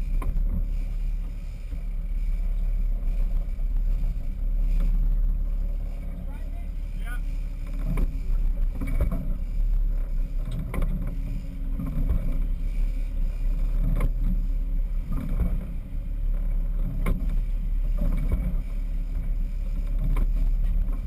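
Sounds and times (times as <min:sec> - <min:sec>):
boat engine rumble: 0:00.0 - 0:21.0
water rushing along hull: 0:00.0 - 0:21.0.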